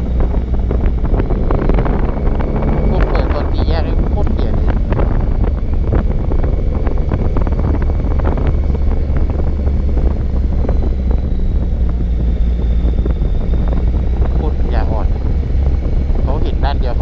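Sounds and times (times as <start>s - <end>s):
motorcycle engine drone: 0.0s - 17.0s
wind buffeting microphone: 0.0s - 17.0s.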